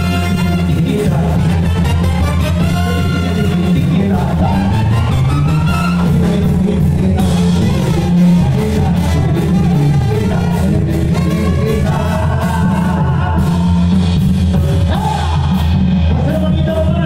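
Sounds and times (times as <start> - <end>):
brass band with singer: 0.0 - 17.0.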